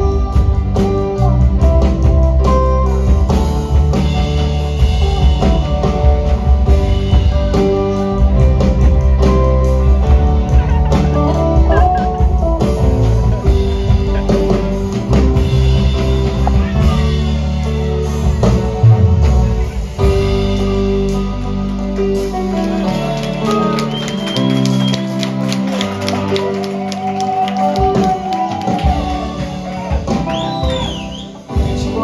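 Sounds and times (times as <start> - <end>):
bass guitar: 0.0 - 32.0
drum kit: 0.0 - 32.0
electric guitar: 0.0 - 32.0
keyboard: 0.0 - 32.0.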